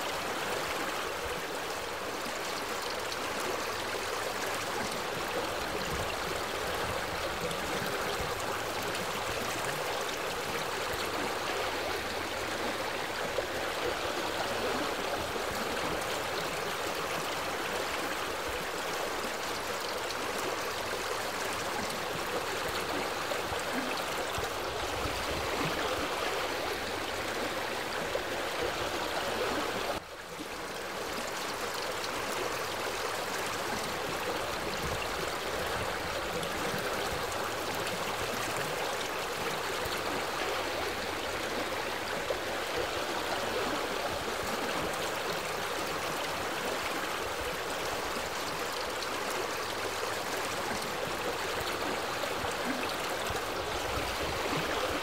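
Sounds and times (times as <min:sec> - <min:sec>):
stream water splashing over rocks: 0:00.0 - 0:55.0.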